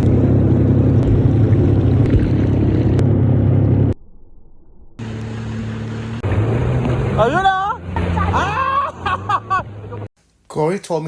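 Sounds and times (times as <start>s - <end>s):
jet ski engine humming: 0.0s - 3.9s, 5.0s - 10.1s
water noise: 0.0s - 10.0s.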